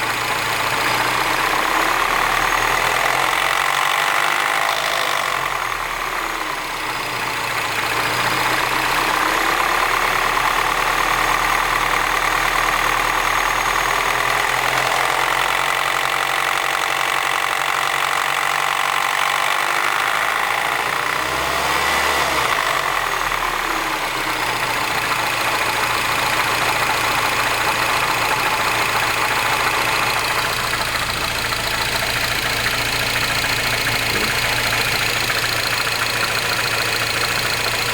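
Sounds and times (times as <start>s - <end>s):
car engine idling: 0.0s - 37.9s
engine rattle: 0.0s - 37.9s.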